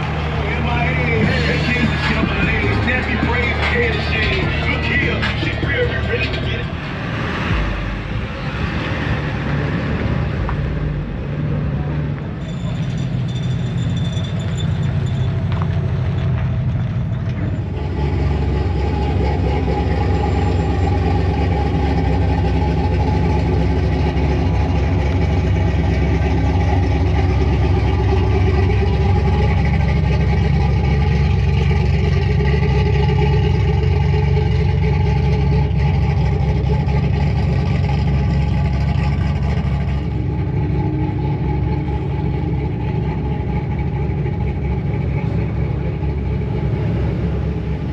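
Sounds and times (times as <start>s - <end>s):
truck engine running: 0.0s - 47.9s.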